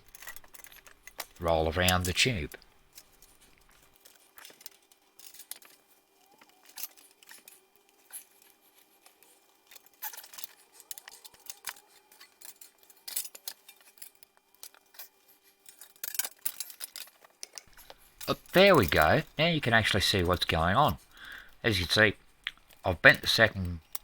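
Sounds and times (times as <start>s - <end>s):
faint steady hum: 0.0s - 24.0s
metallic clicks and scrapes: 0.0s - 24.0s.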